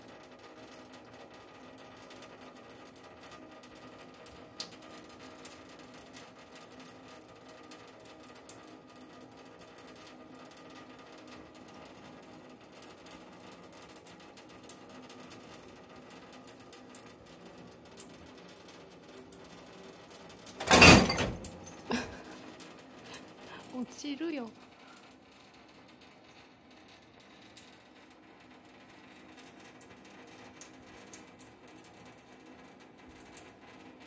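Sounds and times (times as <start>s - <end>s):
tap water trickling into sink: 0.2s - 34.0s.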